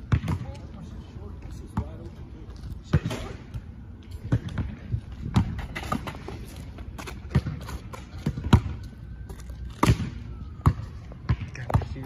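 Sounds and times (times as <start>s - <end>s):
basketball bouncing on asphalt: 0.0s - 12.0s.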